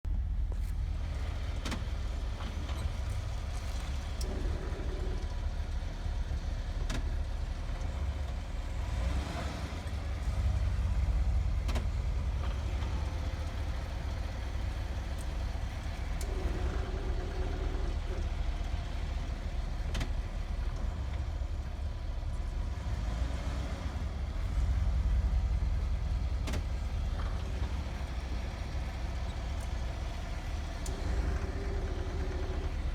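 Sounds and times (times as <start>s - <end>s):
pulsating gurgling brake noise: 0.1s - 8.9s, 10.2s - 23.0s, 24.0s - 32.9s.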